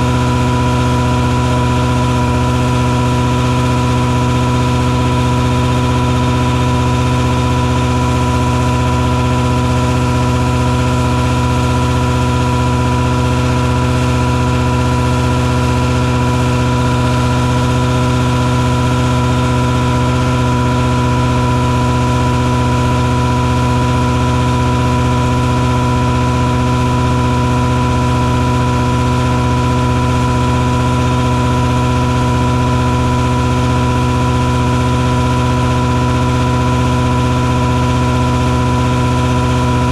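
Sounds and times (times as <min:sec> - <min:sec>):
truck engine and fogger droning: 0:00.0 - 0:39.9.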